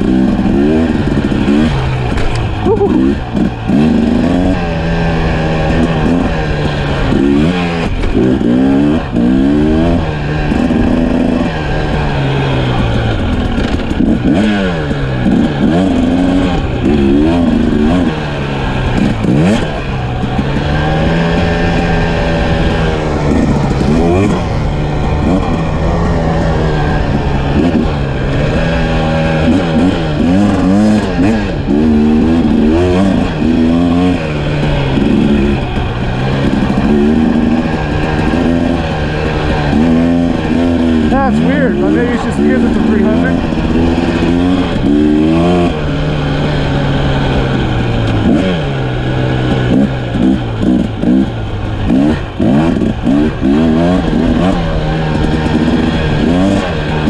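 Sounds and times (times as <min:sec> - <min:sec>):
dirt bike engine revving: 0:00.0 - 0:57.0
wind and road noise: 0:00.0 - 0:57.0.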